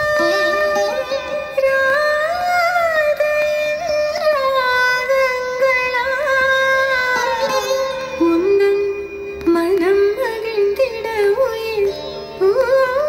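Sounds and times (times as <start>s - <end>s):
ornamented sung melody: 0.0s - 13.0s.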